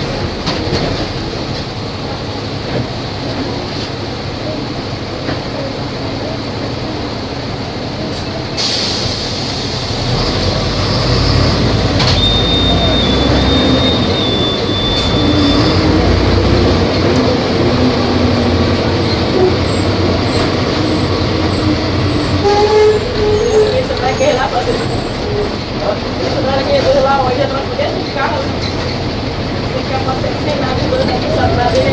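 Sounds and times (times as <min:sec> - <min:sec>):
bus diesel engine under load: 0:00.0 - 0:31.9.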